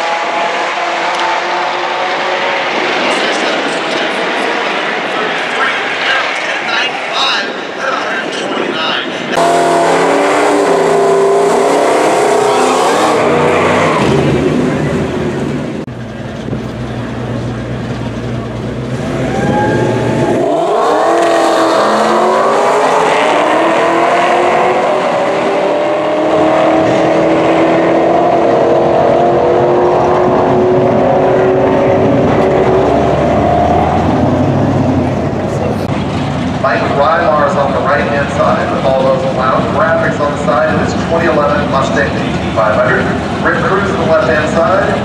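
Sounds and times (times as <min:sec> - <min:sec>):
cars launching and accelerating: 0:00.0 - 0:08.4, 0:09.1 - 0:45.0
car engines revving: 0:00.0 - 0:45.0.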